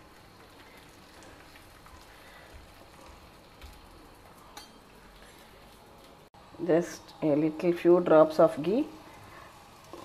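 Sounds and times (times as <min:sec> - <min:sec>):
flatbread sizzling on griddle: 0:00.0 - 0:06.3, 0:08.3 - 0:10.0.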